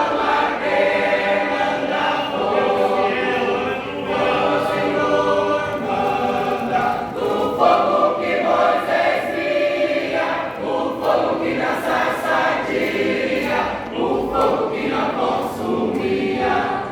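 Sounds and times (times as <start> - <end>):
choir singing gospel in harmony: 0.0 - 16.9.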